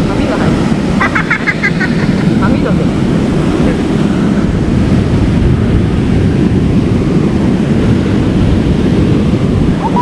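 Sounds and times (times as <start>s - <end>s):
strong wind buffeting microphone: 0.0s - 10.0s
surf washing on beach: 0.0s - 10.0s.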